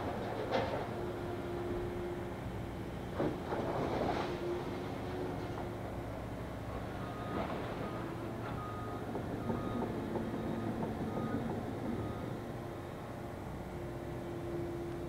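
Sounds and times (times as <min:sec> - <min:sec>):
excavator diesel engine and hydraulics: 0:00.0 - 0:15.0.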